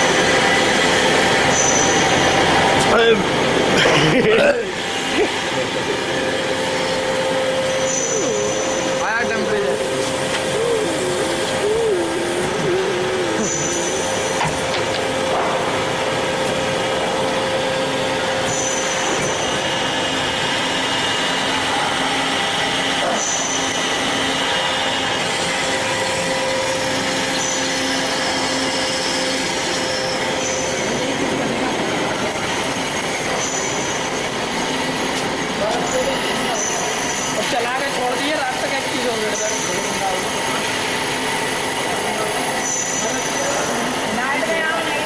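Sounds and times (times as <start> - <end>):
band saw running with whine: 0.0 - 45.0.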